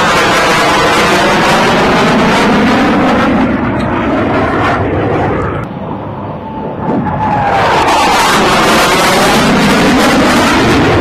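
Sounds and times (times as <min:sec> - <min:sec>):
jet engine whine: 0:00.0 - 0:11.0
jet roaring past: 0:00.0 - 0:11.0.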